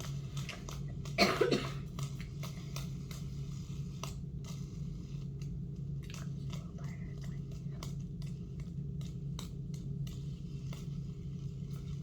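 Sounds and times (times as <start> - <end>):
silicone toy clicks and rubs: 0.0 - 1.2, 1.8 - 12.0
steady low hum: 0.0 - 12.0.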